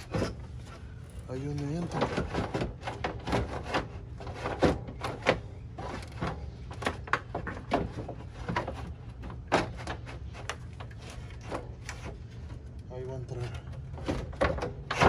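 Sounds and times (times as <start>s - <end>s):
fan knocking and scraping: 0.0s - 15.0s.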